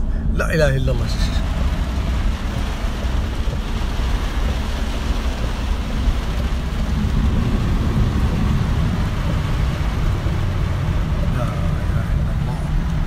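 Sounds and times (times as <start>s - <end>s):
engine and road rumble: 0.0s - 13.0s
rain on a car: 0.0s - 13.0s
tyres hissing on wet road: 1.0s - 13.0s.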